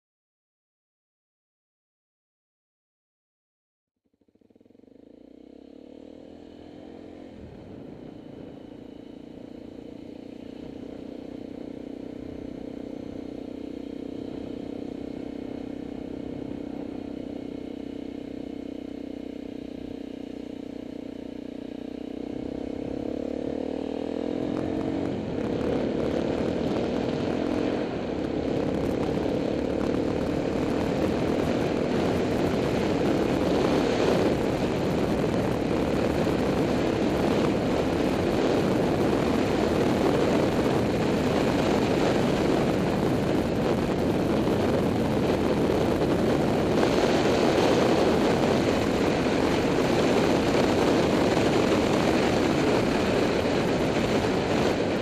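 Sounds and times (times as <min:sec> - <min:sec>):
motorcycle engine cruising: 0:04.1 - 0:55.0
wind and road noise: 0:04.2 - 0:55.0.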